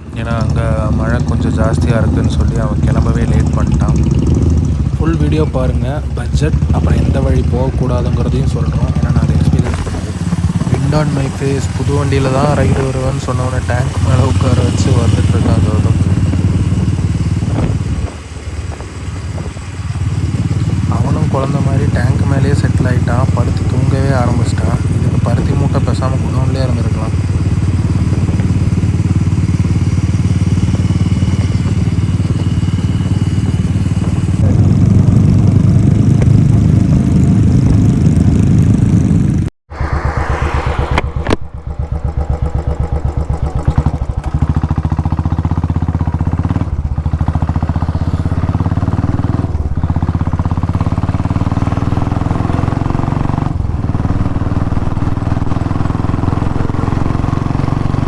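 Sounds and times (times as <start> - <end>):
motorcycle engine at speed: 0.0 - 58.0
road and wind noise: 0.0 - 58.0.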